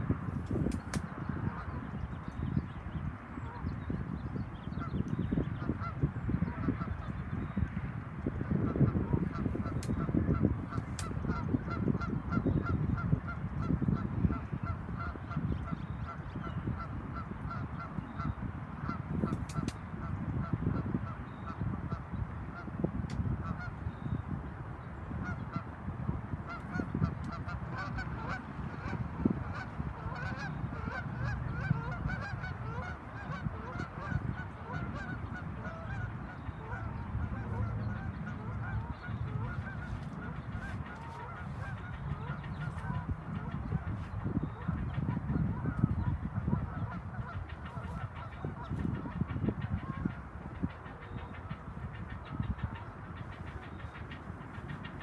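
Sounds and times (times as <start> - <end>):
geese honking: 4.8 - 22.8, 23.4 - 24.2, 25.2 - 25.8, 26.4 - 55.0.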